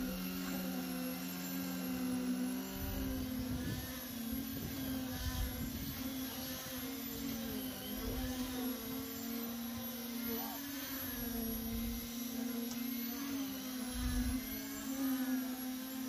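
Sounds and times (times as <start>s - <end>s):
low rumbles of surging concrete: 0.0s - 16.0s
poker vibrator buzzing hum: 0.0s - 16.0s.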